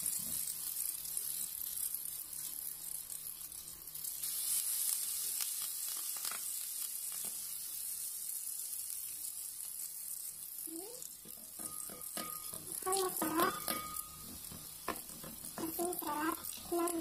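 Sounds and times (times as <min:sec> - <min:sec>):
batter sizzling in hot oil: 0:00.0 - 0:17.0.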